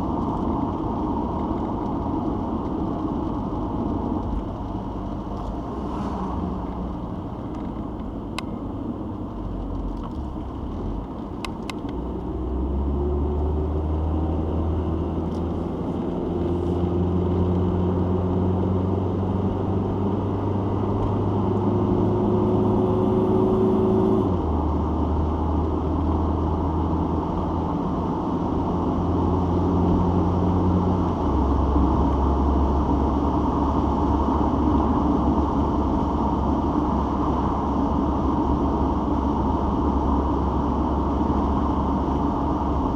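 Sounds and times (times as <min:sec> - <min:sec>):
car engine and road noise drone: 0:00.0 - 0:42.9.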